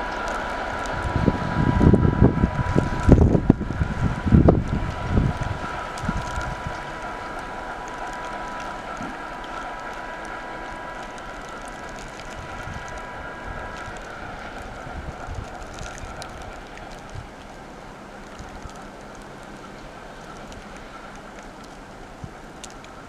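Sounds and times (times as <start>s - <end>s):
locomotive engine rumble: 0.0s - 23.0s.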